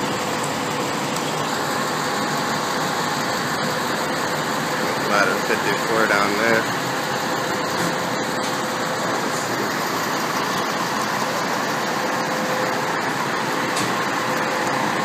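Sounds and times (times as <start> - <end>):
diesel engines rumbling: 1.0 - 15.0.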